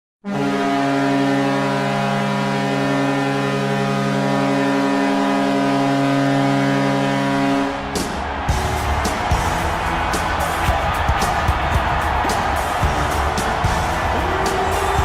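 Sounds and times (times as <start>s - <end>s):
goal horn blowing deep chord: 0.2s - 15.0s
music: 0.2s - 15.0s.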